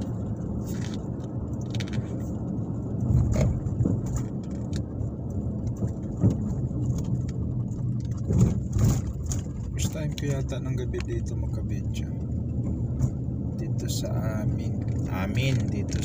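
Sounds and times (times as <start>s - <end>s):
engine and road rumble: 0.0s - 16.0s
light clicks and rattles: 0.0s - 16.0s.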